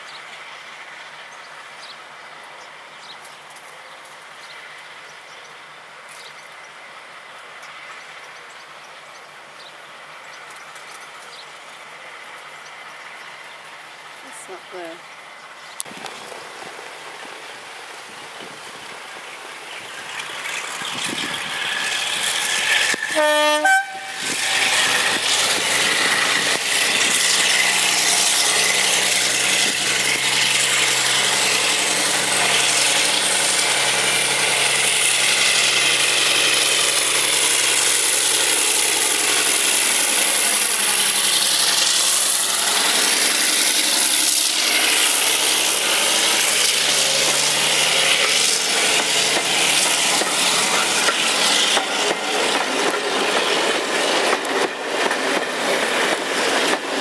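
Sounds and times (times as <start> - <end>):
coaches rolling on rails: 0.0 - 57.0
diesel locomotive engines: 0.0 - 57.0.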